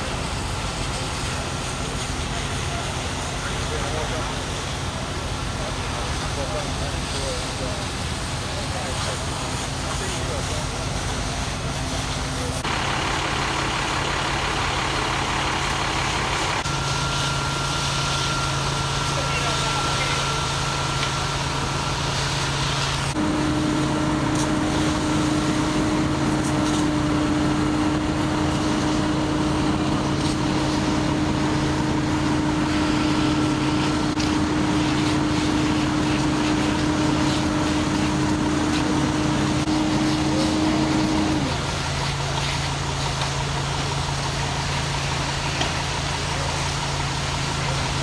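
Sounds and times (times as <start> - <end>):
truck engine low hum: 0.0 - 48.0.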